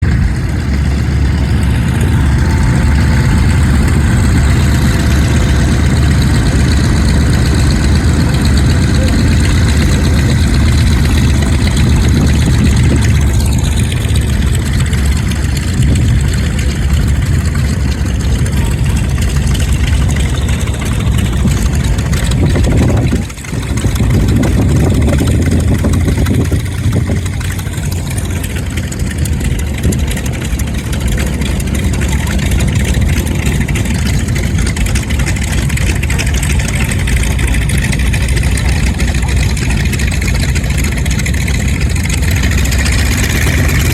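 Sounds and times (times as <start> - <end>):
piston engines rumbling: 0.0 - 43.9.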